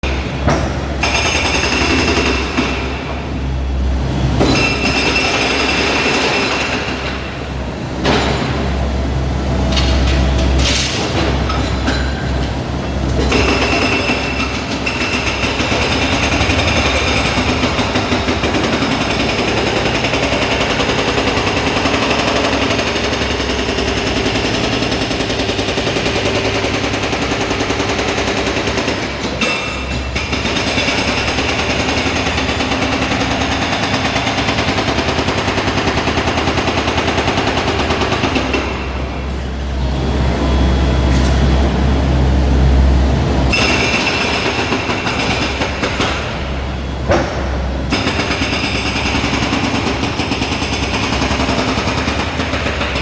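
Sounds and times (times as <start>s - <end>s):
hydraulic breaker hammering concrete: 0.0s - 3.4s, 4.2s - 9.0s, 9.6s - 39.5s, 43.5s - 53.0s.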